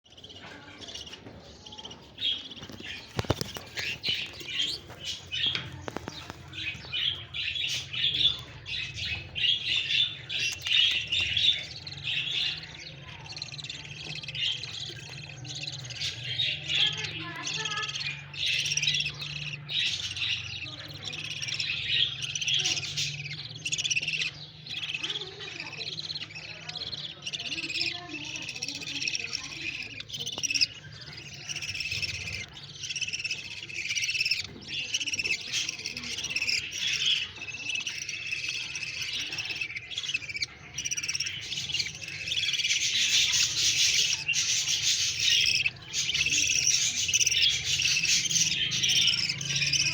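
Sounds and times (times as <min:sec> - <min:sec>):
budgerigars chattering and chirping: 0:00.0 - 0:49.9.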